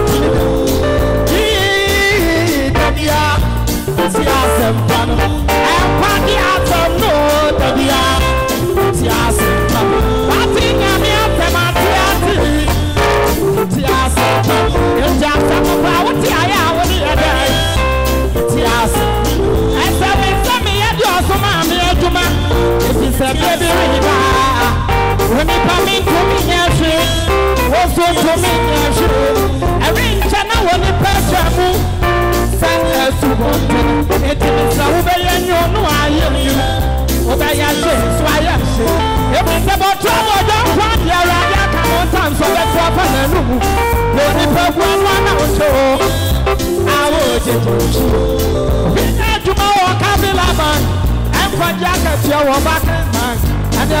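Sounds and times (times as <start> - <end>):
band playing gospel music: 0.0 - 54.0
man singing into microphone: 0.0 - 54.0.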